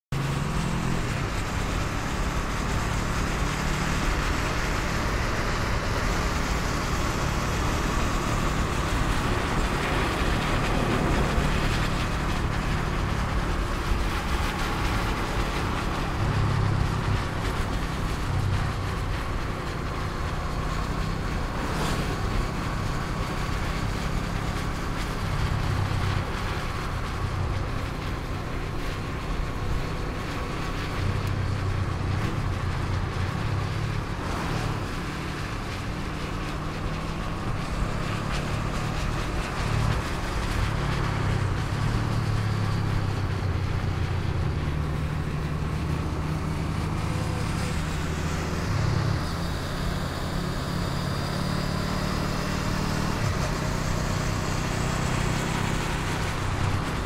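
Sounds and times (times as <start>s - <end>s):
road noise: 0.0s - 57.0s
motorcycle engine running: 0.1s - 57.0s.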